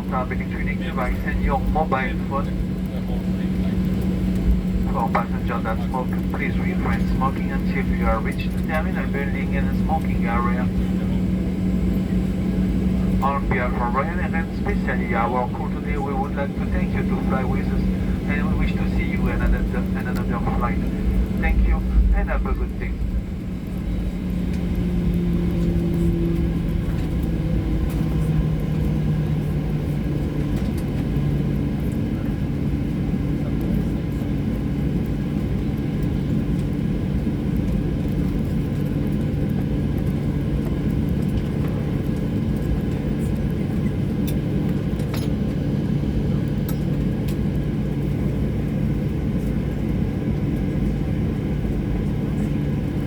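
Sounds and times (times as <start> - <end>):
aircraft cabin rumble: 0.0 - 53.0
jet engines idling: 0.0 - 53.0.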